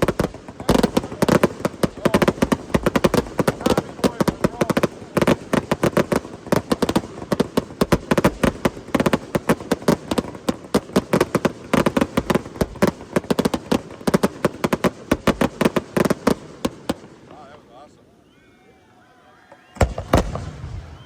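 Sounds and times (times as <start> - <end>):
fireworks bangs and crackles: 0.0 - 17.9, 19.7 - 21.0.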